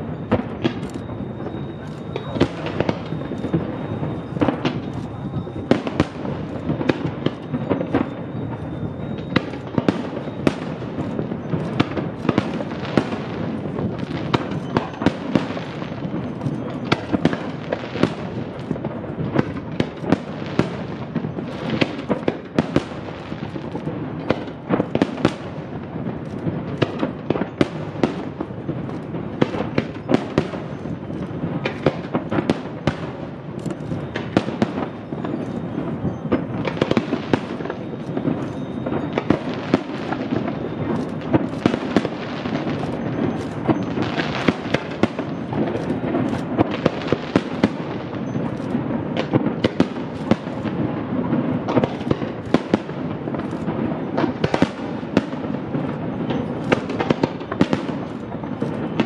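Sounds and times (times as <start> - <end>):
firework shells bursting: 0.0 - 59.0
fireworks rumble and crackle: 0.0 - 59.0.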